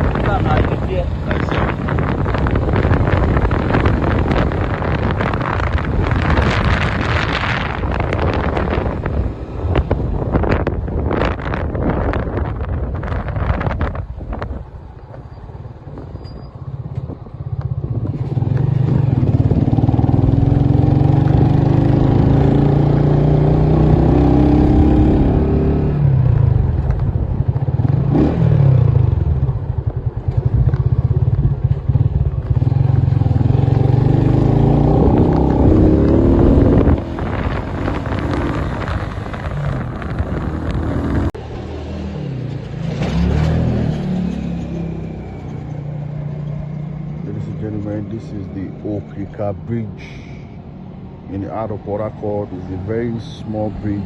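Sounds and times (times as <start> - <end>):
motorcycle engine accelerating: 0.0 - 14.7, 15.4 - 49.4.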